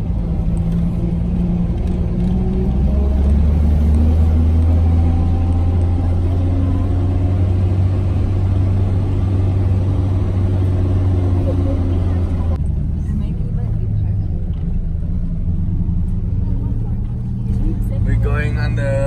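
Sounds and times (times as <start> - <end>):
car engine running while driving: 0.0 - 19.0.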